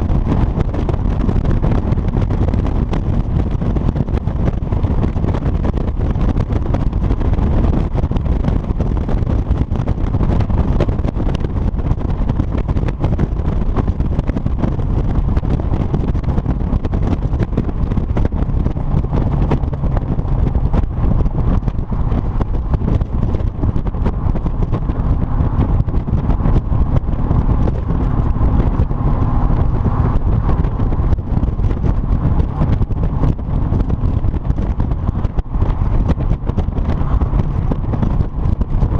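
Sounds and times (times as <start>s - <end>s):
car engine exhaust note: 0.0s - 38.9s
wind buffeting microphone: 0.0s - 38.9s.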